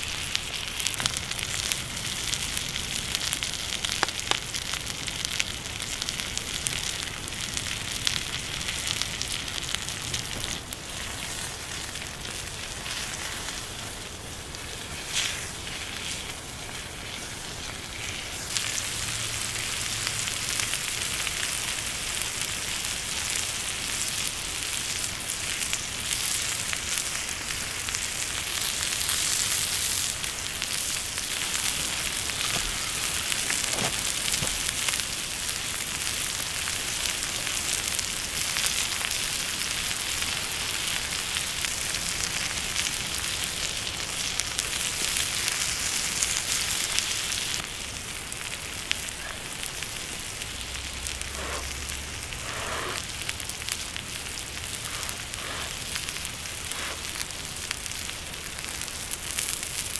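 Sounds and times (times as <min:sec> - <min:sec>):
meat sizzling on hot stone: 0:00.0 - 0:59.9.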